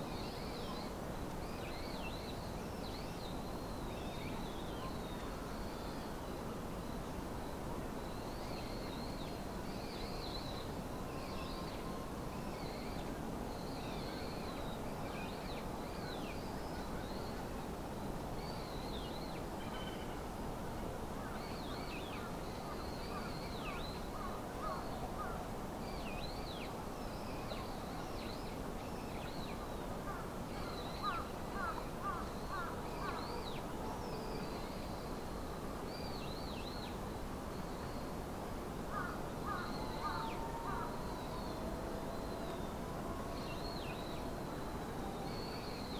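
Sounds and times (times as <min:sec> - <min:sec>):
low outdoor hiss: 0:00.0 - 0:45.9.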